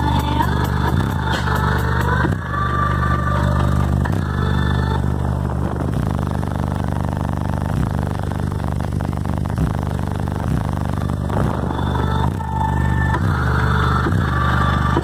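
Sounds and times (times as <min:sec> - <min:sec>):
bass-heavy hip-hop through subwoofer: 0:00.0 - 0:15.0.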